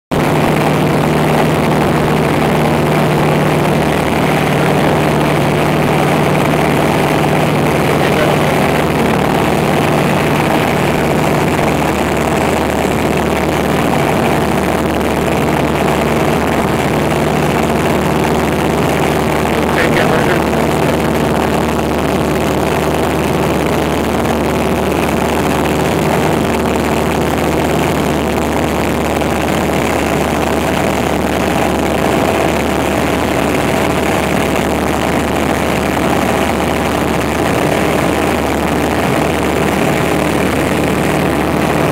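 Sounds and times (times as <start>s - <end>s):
airplane engine and propeller droning: 0.1s - 41.9s.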